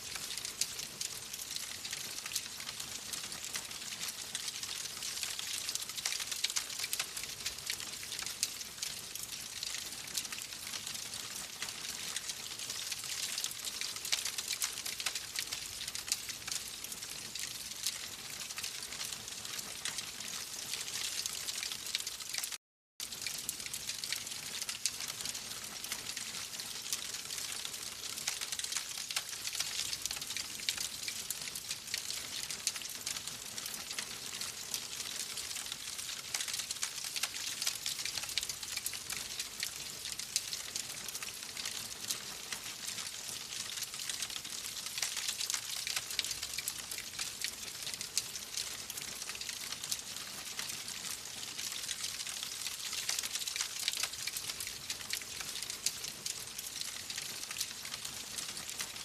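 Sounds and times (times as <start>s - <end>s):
wood fire crackling: 0.1s - 58.7s.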